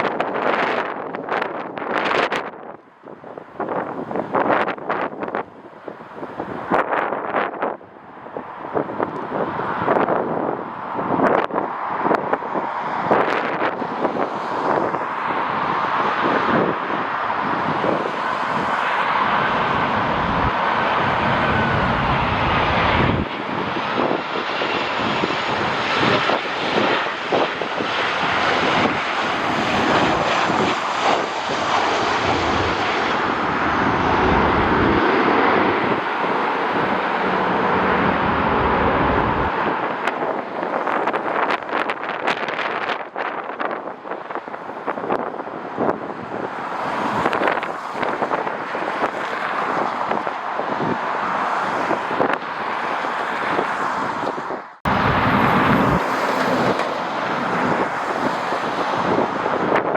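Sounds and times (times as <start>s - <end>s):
jet engines roaring: 0.0s - 59.9s
wind buffeting microphone: 0.0s - 59.9s.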